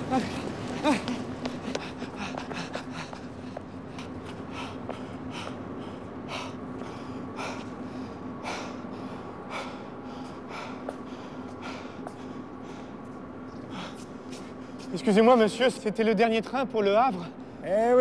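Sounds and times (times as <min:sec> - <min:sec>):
man breathing heavily: 0:00.0 - 0:14.9
steady low hum: 0:00.0 - 0:18.0.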